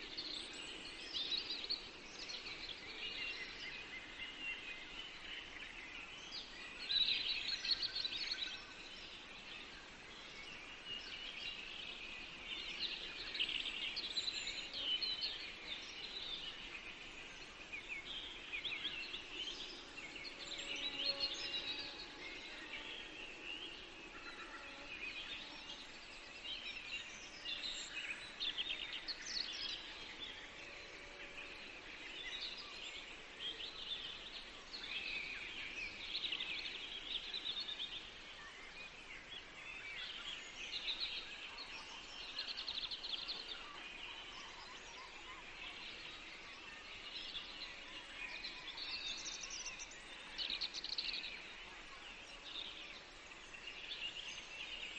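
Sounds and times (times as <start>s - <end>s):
songbird chorus: 0.0s - 54.9s.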